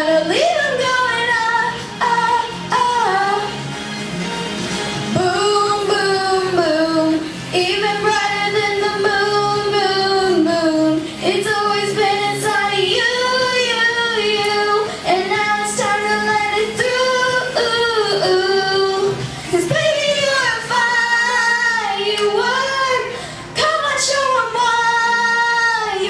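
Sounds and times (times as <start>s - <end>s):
child singing: 0.0s - 3.5s, 5.2s - 26.0s
pop backing track: 0.0s - 26.0s.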